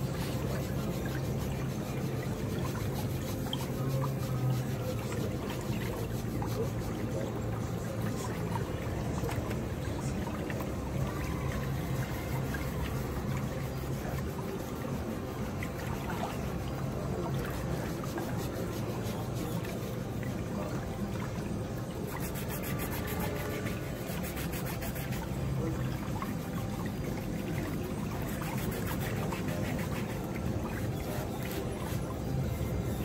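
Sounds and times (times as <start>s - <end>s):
footbath water churning: 0.0s - 33.0s.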